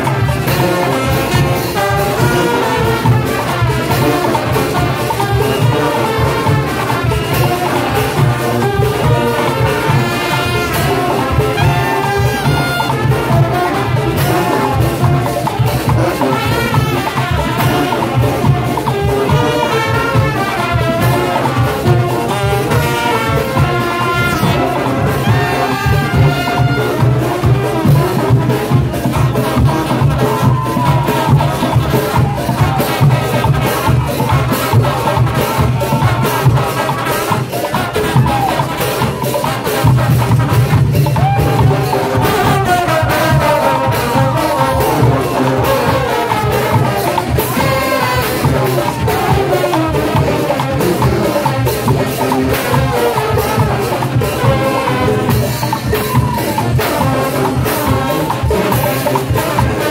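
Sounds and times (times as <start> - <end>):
marching brass band playing: 0.0 - 59.9
percussion hits: 0.0 - 59.9.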